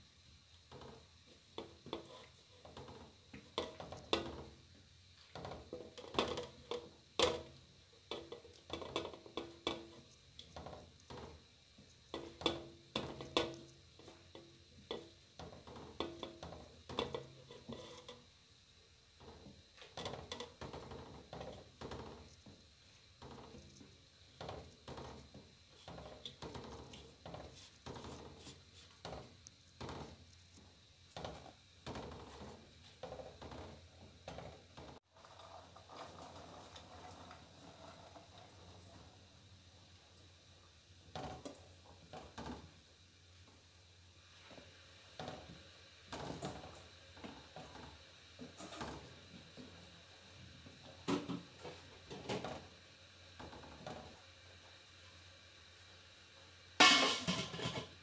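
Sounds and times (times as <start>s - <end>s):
dough balls dropping into liquid: 0.6s - 18.3s, 19.1s - 37.6s, 41.0s - 42.8s, 44.4s - 49.8s, 50.7s - 52.8s, 53.4s - 54.3s.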